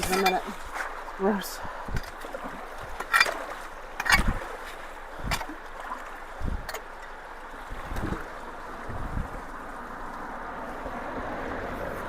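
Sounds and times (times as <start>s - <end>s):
water rushing through culvert: 0.0s - 12.0s.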